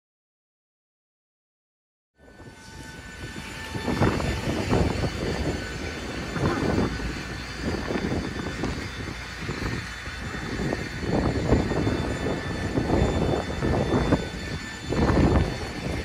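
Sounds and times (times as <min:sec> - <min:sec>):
jet aircraft roar: 0:02.2 - 0:16.0
whining jet engine tones: 0:02.2 - 0:16.0.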